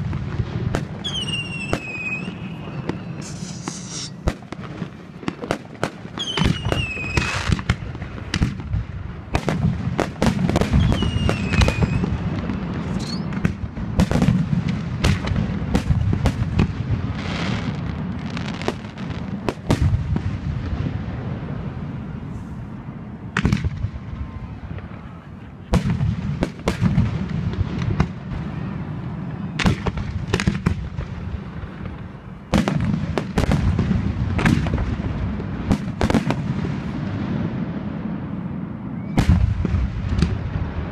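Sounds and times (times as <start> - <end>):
descending firework whistles: 0.0 - 8.6, 9.2 - 33.8, 34.4 - 40.9
firework bangs and crackling: 0.0 - 40.9.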